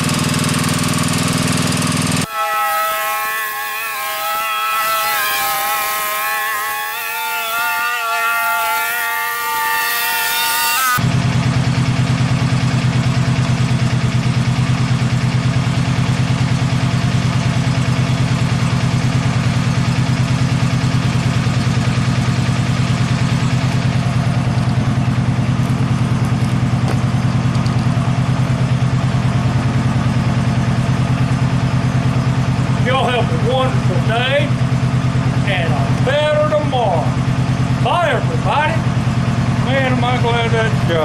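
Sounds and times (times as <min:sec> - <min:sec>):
mower engine running: 0:00.0 - 0:41.0.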